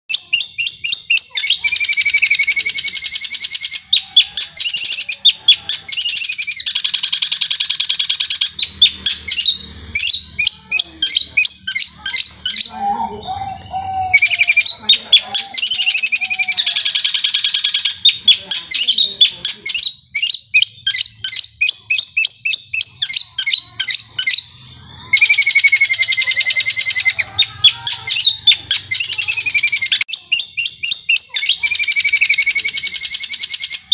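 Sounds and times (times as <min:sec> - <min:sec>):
bird singing rapid trill: 0:00.1 - 0:33.9
lower warbled bird phrase: 0:00.1 - 0:33.9.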